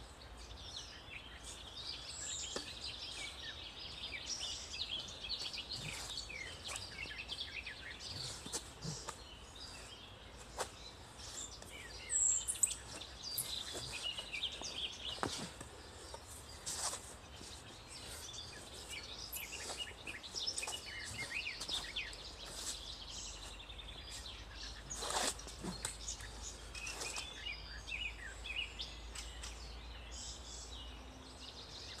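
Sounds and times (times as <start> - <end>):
small birds singing: 0.0 - 32.0.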